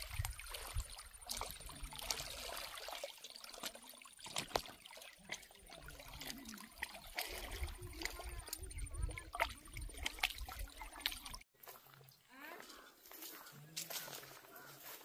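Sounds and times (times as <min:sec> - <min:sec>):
water lapping and trickling: 0:00.0 - 0:15.0.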